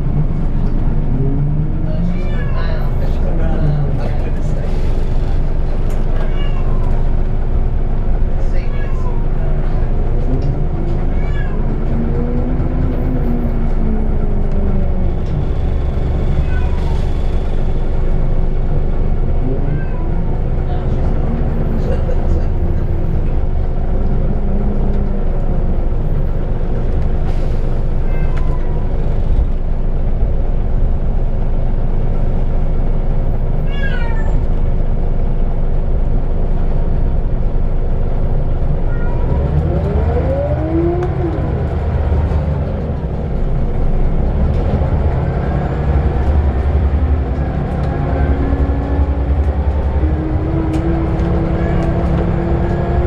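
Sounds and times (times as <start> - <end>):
bus engine droning: 0.0 - 53.0
road and body noise: 0.0 - 53.0.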